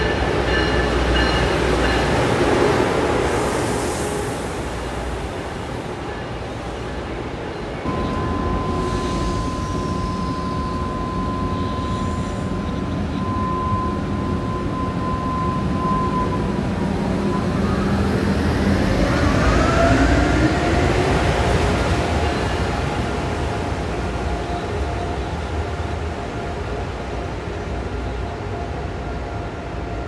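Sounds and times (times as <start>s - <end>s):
train rumble with high whine: 0.0s - 30.0s.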